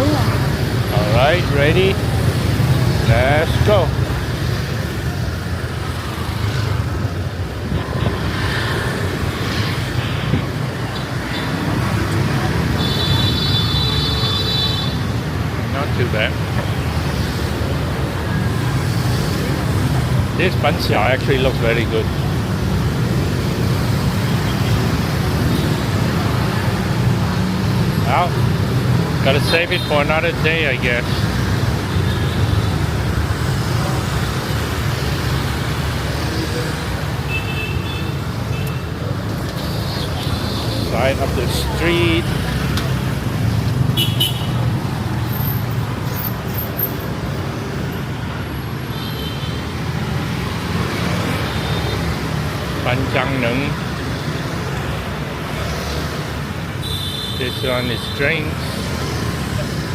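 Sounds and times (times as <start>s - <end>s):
motorbikes passing: 0.0s - 59.9s
street traffic rumble: 0.0s - 59.9s.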